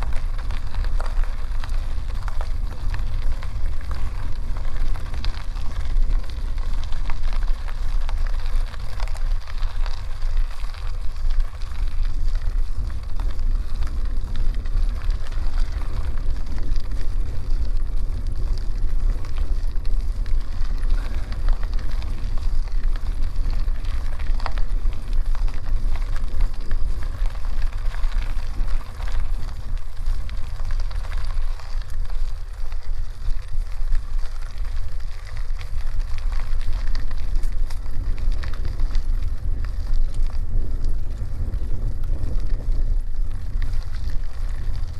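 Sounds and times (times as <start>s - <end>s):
bicycle tyres crunching on gravel: 0.0s - 44.9s
wind rumble on microphone: 0.0s - 44.9s.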